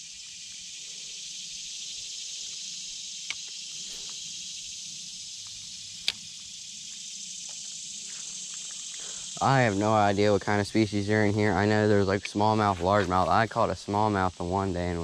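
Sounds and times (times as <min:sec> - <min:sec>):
high-pitched outdoor hiss: 0:00.0 - 0:15.0.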